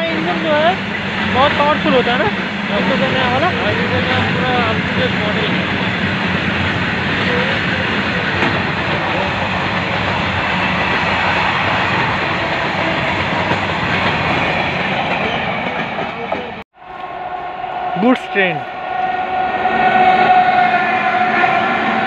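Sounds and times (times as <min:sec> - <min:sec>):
steel wheels on rails: 0:00.0 - 0:22.0.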